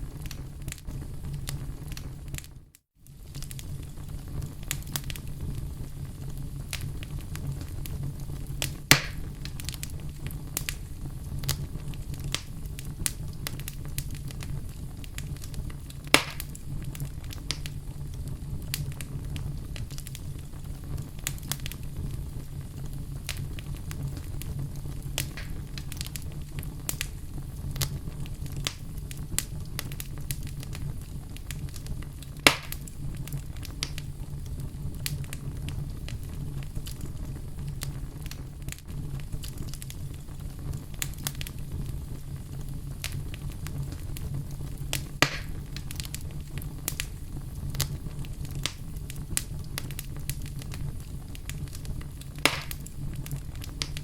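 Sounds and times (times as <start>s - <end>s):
fire crackling in fireplace: 0.0s - 54.0s
loud fire pops: 0.0s - 54.0s
low steady fire rumble: 0.0s - 54.0s.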